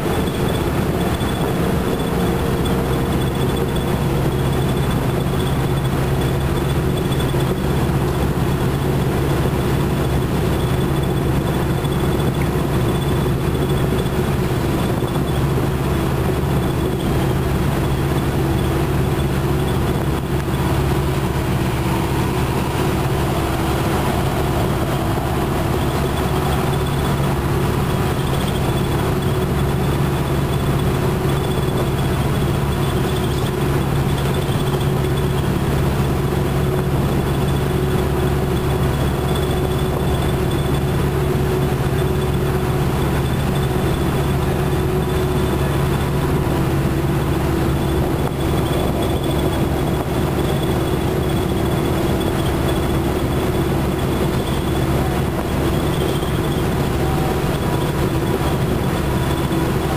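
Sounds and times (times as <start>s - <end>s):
bus diesel engine running: 0.0s - 59.9s
road and tyre noise: 0.0s - 59.9s
high-pitched whine: 9.7s - 59.9s.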